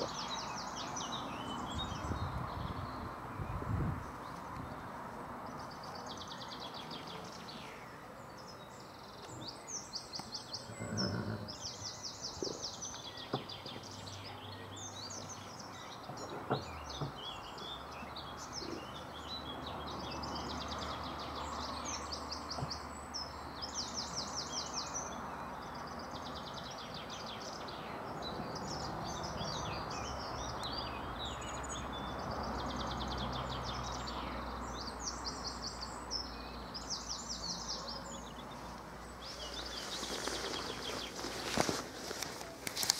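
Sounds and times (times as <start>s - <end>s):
songbirds trilling: 0.0s - 42.9s.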